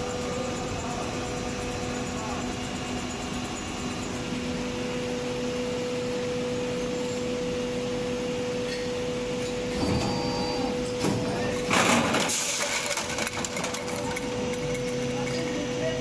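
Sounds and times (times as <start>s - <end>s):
moulding machine humming: 0.0s - 16.0s.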